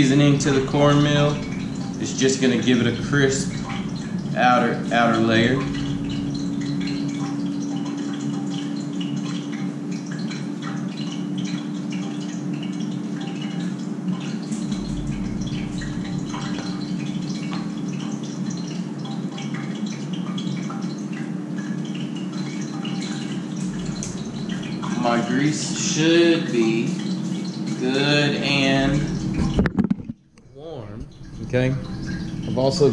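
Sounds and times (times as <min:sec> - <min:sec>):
air fryer fan whirring: 0:00.0 - 0:20.6, 0:21.4 - 0:29.9, 0:30.6 - 0:32.9.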